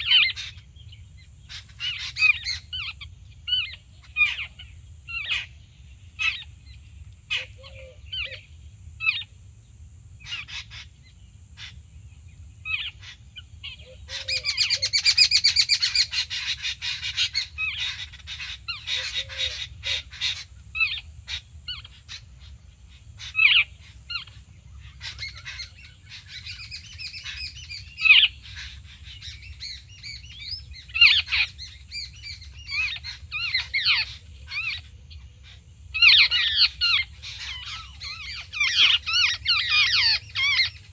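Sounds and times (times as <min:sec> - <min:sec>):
babblers chattering calls: 0:00.0 - 0:00.9, 0:01.5 - 0:06.6, 0:07.3 - 0:09.3, 0:12.6 - 0:40.9.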